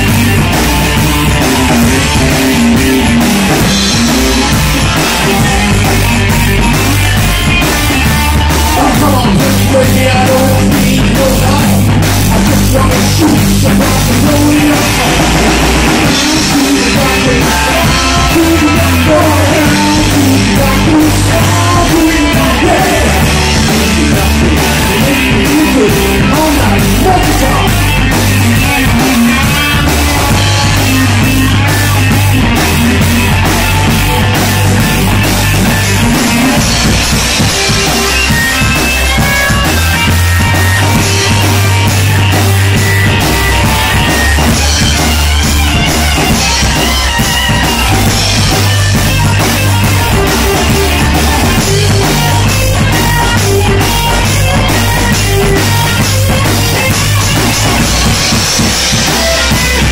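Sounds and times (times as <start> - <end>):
drum kit beat: 0.0 - 59.9
electric guitars: 0.0 - 59.9.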